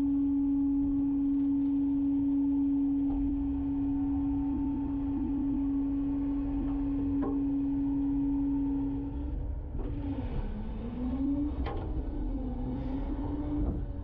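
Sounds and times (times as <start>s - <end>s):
hydraulic packer whine: 0.0s - 14.0s.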